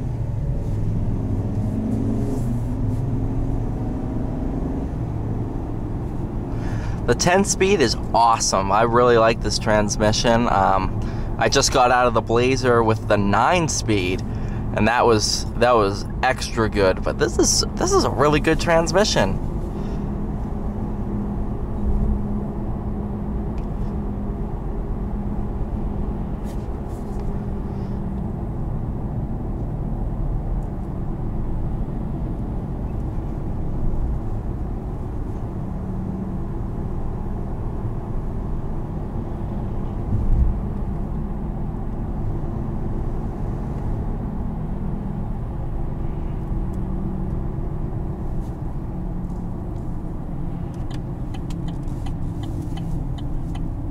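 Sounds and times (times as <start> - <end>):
engine and road noise inside cab: 0.0 - 53.9.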